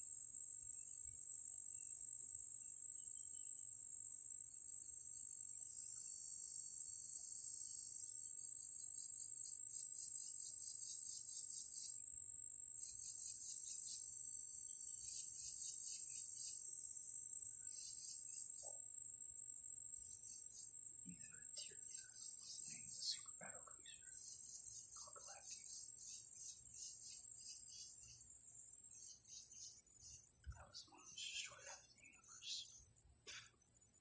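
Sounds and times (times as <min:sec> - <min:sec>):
insect high-pitched trill: 0:00.0 - 0:34.0
insects pulsing chirps: 0:00.0 - 0:34.0.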